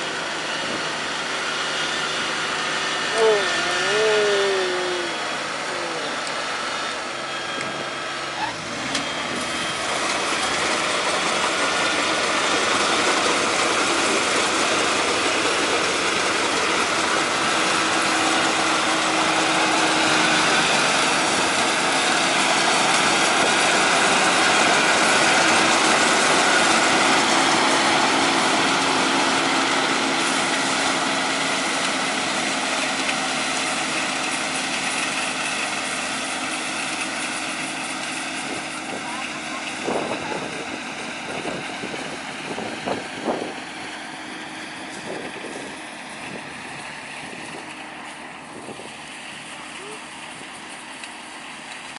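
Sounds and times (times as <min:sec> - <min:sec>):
combine harvester running: 0:00.0 - 0:51.9.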